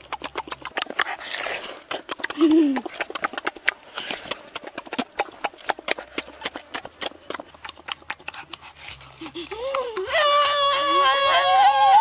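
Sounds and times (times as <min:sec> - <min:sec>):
wet chewing and mouth smacks: 0:00.0 - 0:10.2.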